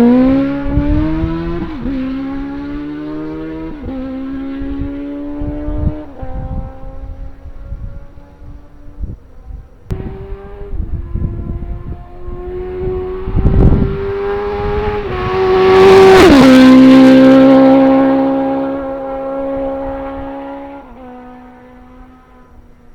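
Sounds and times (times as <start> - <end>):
motorcycle passing by: 0.0 - 22.9.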